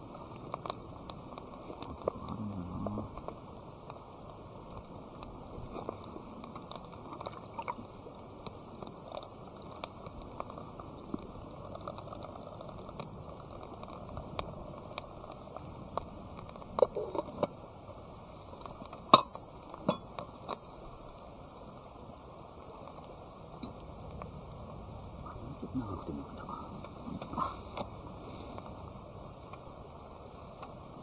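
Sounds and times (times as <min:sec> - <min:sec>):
small crackles and clicks: 0:00.0 - 0:31.0.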